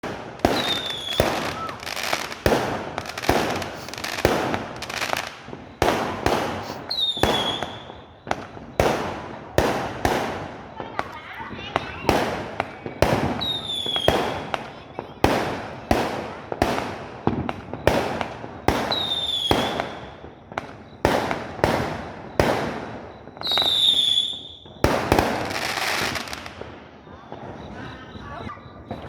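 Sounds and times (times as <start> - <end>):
fireworks launch pops: 0.0 - 27.8
whistling fireworks: 0.0 - 29.0.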